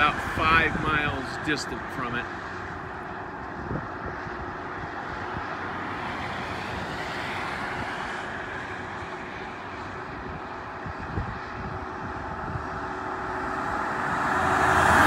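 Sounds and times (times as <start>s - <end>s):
highway traffic: 0.0s - 15.0s
wind buffeting microphone: 0.0s - 15.0s.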